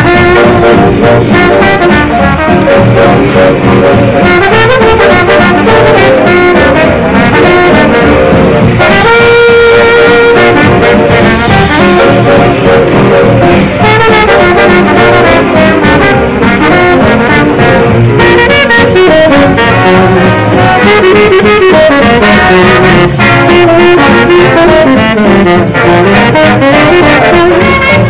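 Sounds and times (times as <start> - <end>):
swing jazz with brass horns: 0.0 - 28.0.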